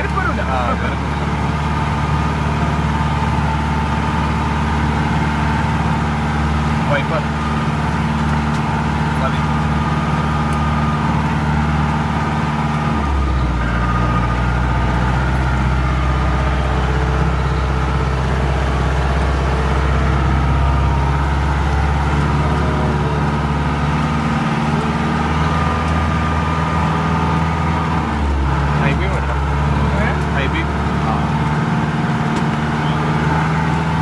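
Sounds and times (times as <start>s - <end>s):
jeep engine running: 0.0s - 34.0s.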